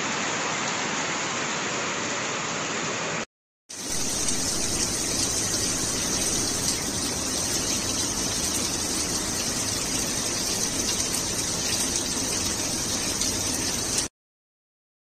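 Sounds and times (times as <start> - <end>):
heavy rain pouring: 0.0 - 14.1.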